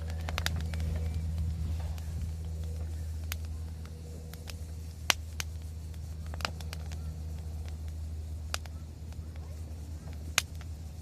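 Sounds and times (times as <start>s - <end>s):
steady low hum: 0.0s - 11.0s
wood fire crackling and popping: 0.0s - 11.0s.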